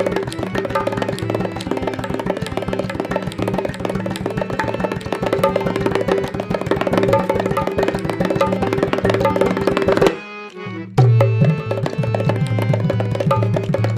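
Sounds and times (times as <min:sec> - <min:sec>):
fast hand-drum music: 0:00.0 - 0:10.2, 0:11.0 - 0:13.9.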